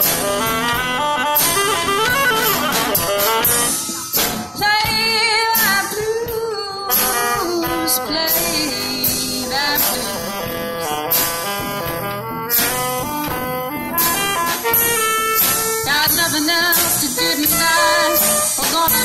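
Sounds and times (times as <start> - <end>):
drum kit: 0.0 - 19.0
guitar: 0.0 - 19.0
saxophone lead line: 0.0 - 19.0.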